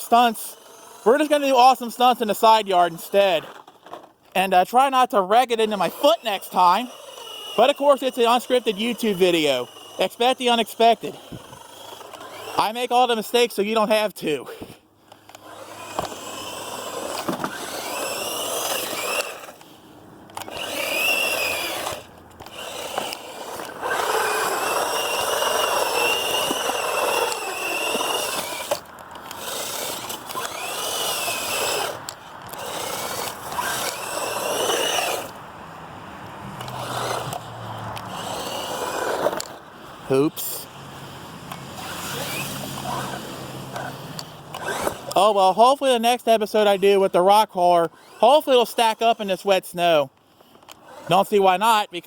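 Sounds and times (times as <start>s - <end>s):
rc truck electric motor whining: 0.0s - 52.0s.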